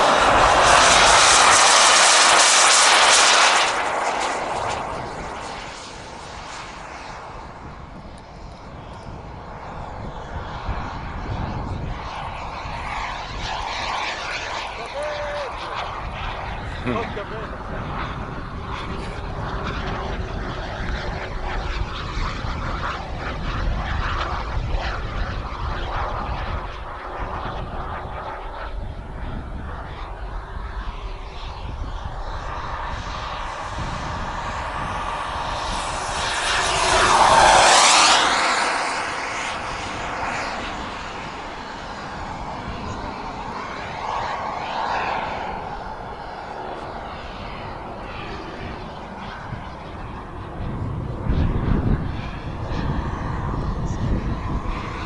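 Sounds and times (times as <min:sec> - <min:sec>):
model jet turbine roar: 0:00.0 - 0:55.0.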